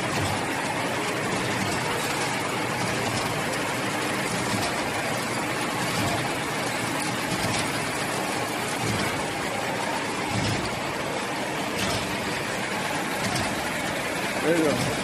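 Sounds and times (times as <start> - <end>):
paper straw machine running: 0.0 - 15.0.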